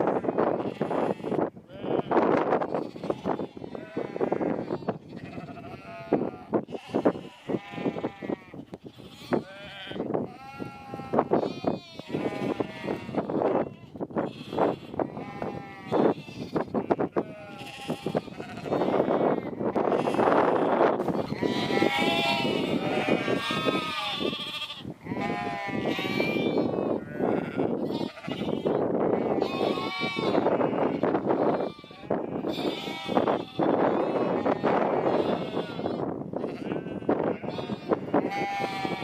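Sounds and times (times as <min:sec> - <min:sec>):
sheep bleating: 0:00.0 - 0:39.0.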